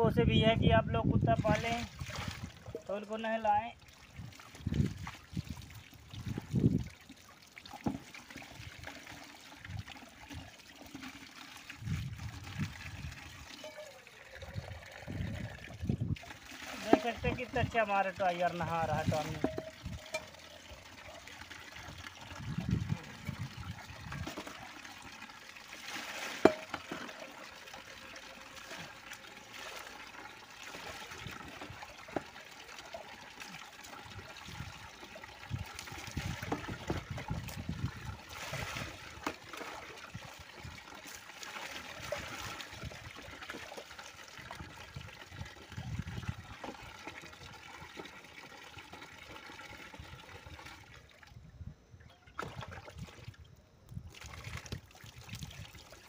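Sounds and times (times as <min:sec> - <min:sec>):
water splashing into a plastic tub: 0:01.2 - 0:51.4, 0:52.0 - 0:56.0.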